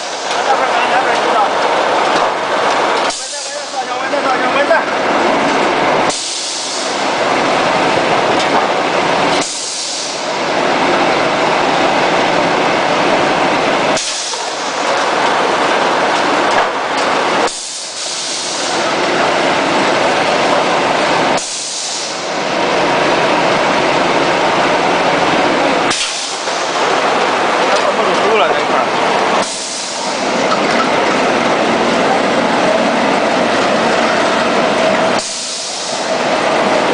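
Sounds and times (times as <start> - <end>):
veneer slicer machine running: 0.0 - 36.9.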